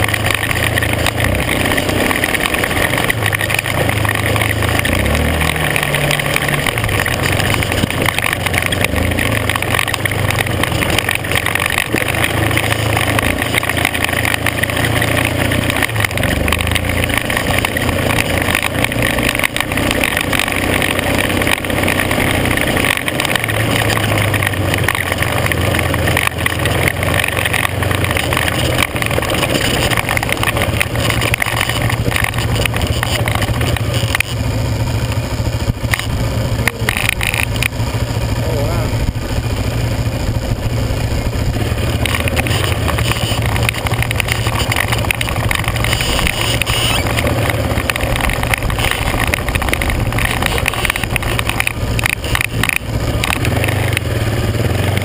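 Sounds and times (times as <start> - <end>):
off-road vehicle engine: 0.0 - 55.0
wind and tyre noise: 0.0 - 55.0.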